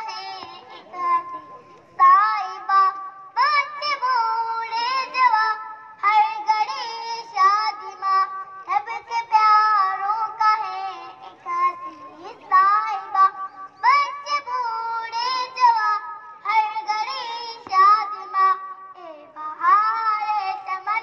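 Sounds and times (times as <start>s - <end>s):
child singing: 0.0s - 21.0s.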